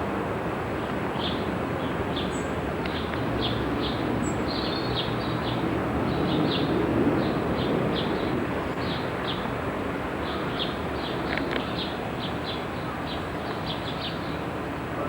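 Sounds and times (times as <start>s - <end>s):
steady rushing noise: 0.0s - 15.0s
small birds chirping: 0.8s - 14.7s.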